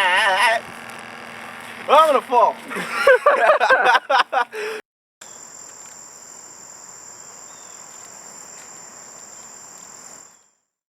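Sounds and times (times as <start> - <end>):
insects trilling: 0.0 - 3.7, 5.2 - 10.5
faint outdoor hiss: 0.0 - 10.7.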